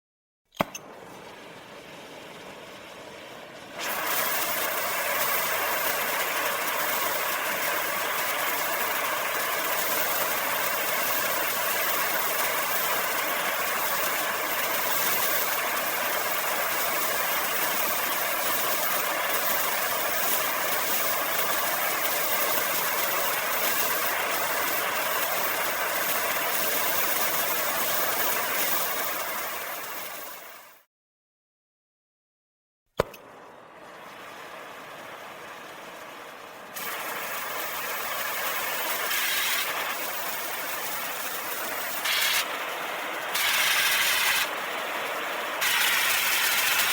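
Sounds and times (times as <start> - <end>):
torch flame hissing: 0.6 - 30.8, 33.1 - 46.9.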